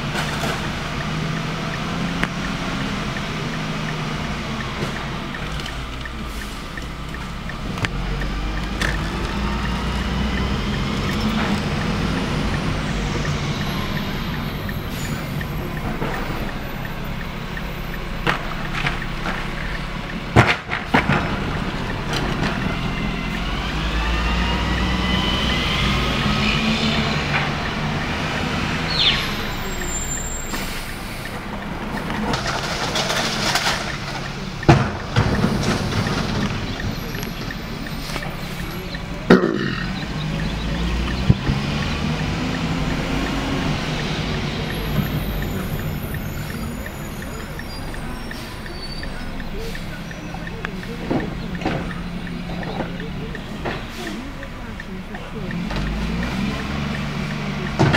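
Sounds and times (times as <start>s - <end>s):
garbage truck engine rumbling: 0.0s - 57.9s.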